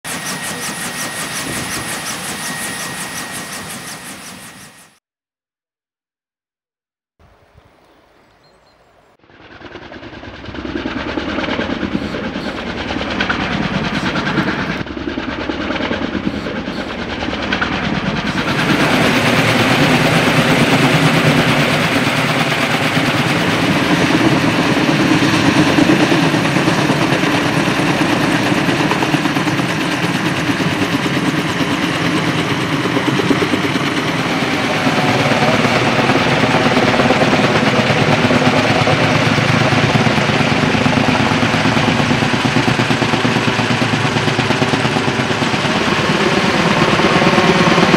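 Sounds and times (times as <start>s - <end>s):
helicopter rotors and engine: 0.0s - 5.0s, 9.1s - 47.9s.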